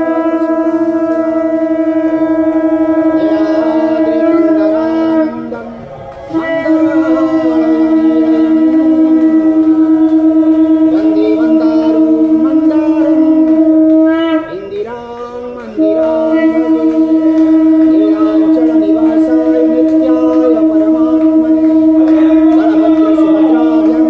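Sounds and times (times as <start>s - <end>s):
wind instruments playing: 0.0s - 24.0s.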